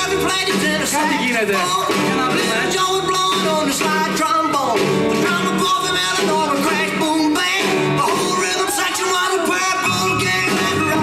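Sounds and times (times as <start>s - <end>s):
recorded song with singing: 0.0s - 11.0s.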